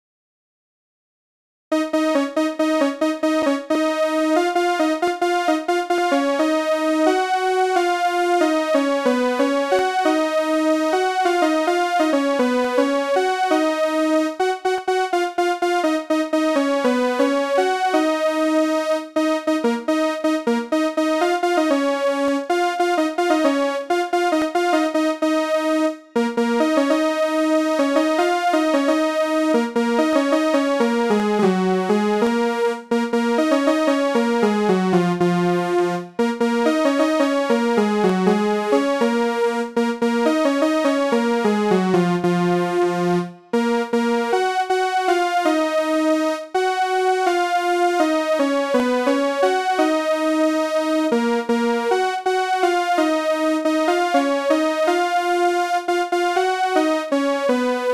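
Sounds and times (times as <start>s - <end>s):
keyboard melody: 1.7s - 57.9s.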